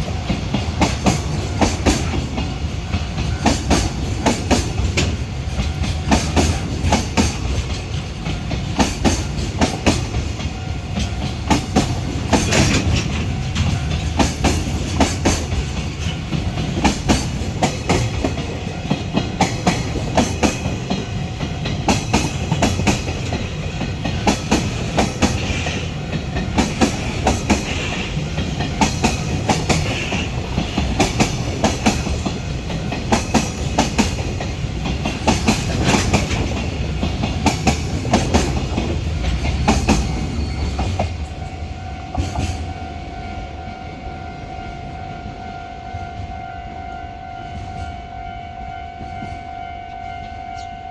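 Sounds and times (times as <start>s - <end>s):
train wheels clacking over rail joints: 0.0s - 42.8s
freight train rumble: 0.0s - 50.9s.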